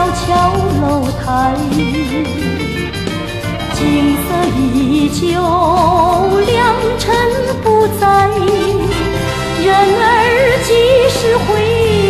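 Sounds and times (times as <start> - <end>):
person singing with vibrato: 0.0 - 12.0
pop band accompaniment: 0.0 - 12.0.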